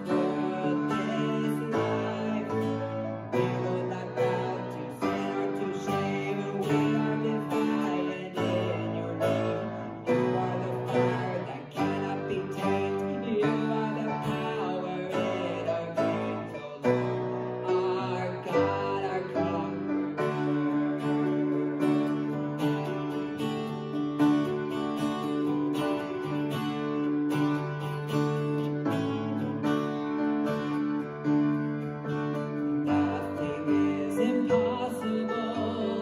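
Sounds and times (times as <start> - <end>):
acoustic guitar strumming: 0.0 - 36.0
grand piano: 0.0 - 36.0.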